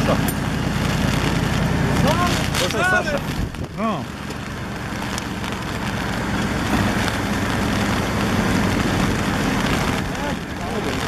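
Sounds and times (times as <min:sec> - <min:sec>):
diesel truck engine running: 0:00.0 - 0:11.0
earth pouring off truck bed: 0:00.0 - 0:11.0.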